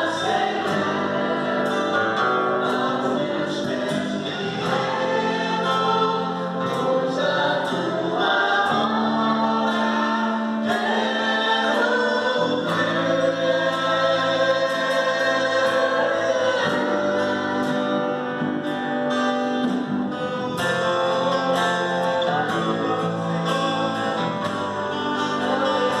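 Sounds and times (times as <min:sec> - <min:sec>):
choir singing worship song: 0:00.0 - 0:26.0
instrumental accompaniment: 0:00.0 - 0:26.0.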